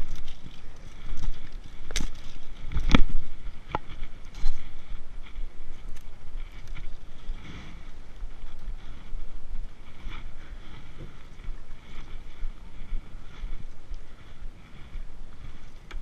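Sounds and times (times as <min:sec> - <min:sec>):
rustling and scuffing: 0:00.0 - 0:16.0
wind buffeting microphone: 0:00.0 - 0:16.0.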